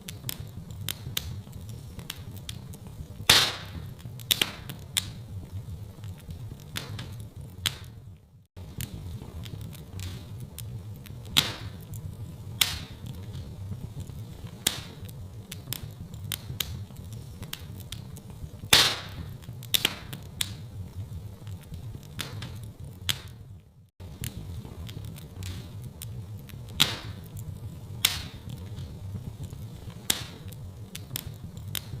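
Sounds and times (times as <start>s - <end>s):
fire popping: 0.0s - 32.0s
low rumble of flames: 0.0s - 32.0s
wood fire crackling: 0.0s - 32.0s.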